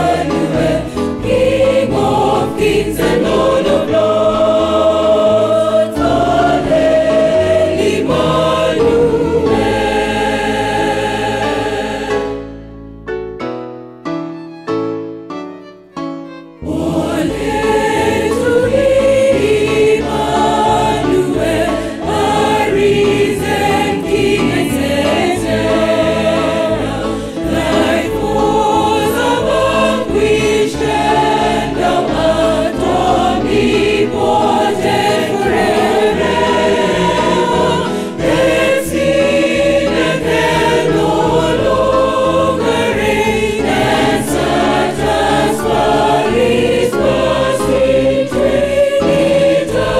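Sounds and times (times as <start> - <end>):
choir singing in harmony: 0.0 - 12.9, 16.3 - 49.9.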